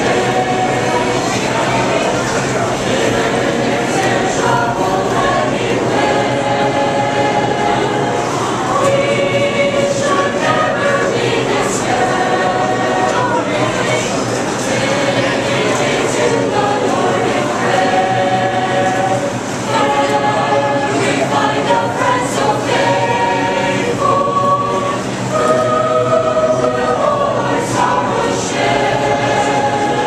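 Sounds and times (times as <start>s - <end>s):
mixed choir singing a cappella: 0.0s - 30.0s.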